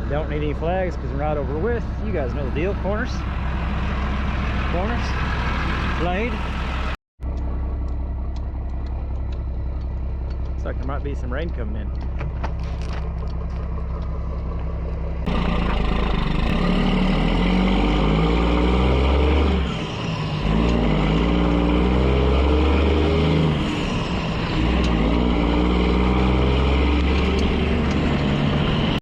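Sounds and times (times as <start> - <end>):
diesel truck engine pulling hard: 0.0 - 29.0.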